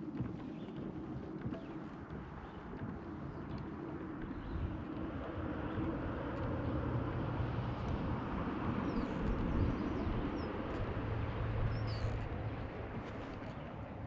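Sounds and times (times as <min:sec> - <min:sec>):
low hum: 0:00.0 - 0:14.0
outdoor rumble and hiss: 0:00.0 - 0:14.0.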